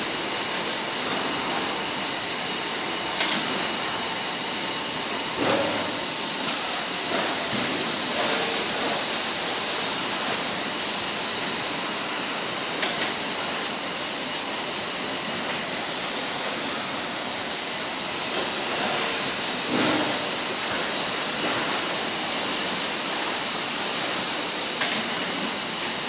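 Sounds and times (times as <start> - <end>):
machinery and conveyors running: 0.0 - 26.0.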